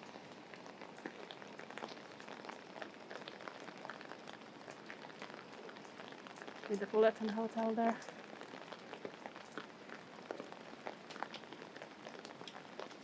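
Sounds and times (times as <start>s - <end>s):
raindrops ticking: 0.0s - 13.0s
steady rain falling: 0.0s - 13.0s.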